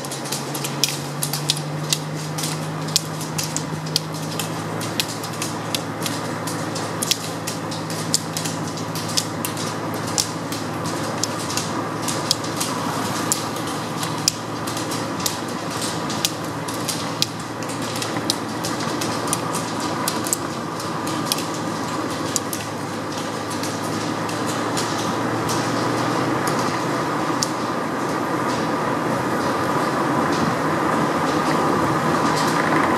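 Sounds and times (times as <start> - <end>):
pole tips clicking on asphalt: 0.0 - 32.9
vehicle on road: 0.0 - 32.9
wheels rolling rumble: 0.0 - 32.9.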